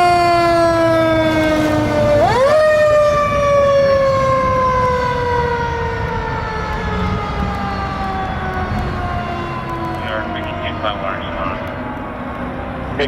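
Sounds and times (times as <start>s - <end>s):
fire truck siren wailing: 0.0s - 13.0s.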